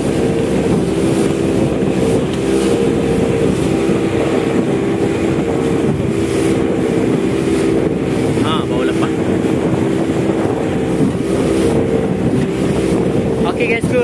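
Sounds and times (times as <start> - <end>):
outboard engine droning: 0.0 - 14.0
wind and water rushing: 0.0 - 14.0.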